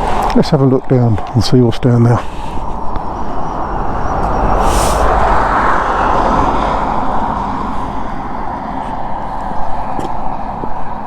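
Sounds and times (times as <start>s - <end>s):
vehicle road and wind noise: 0.0s - 11.0s.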